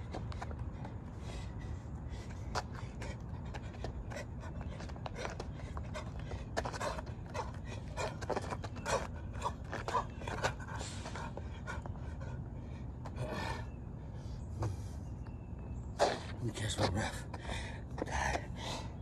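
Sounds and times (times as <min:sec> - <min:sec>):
man breathing hard: 0:00.2 - 0:15.0, 0:17.2 - 0:19.0.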